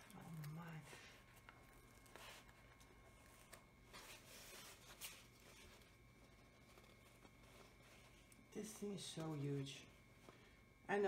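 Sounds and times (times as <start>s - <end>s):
canvas rustling and crinkling: 0.0s - 10.3s.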